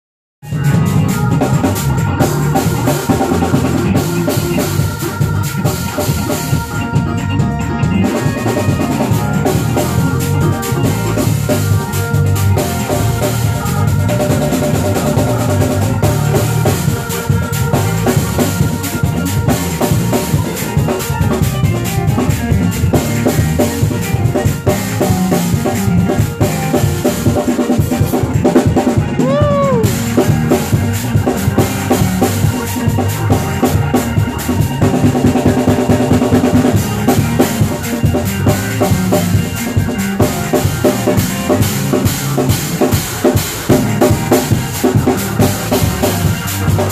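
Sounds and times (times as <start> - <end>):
drum kit playing rapid patterns: 0.4 - 46.9
live band playing: 0.4 - 46.9.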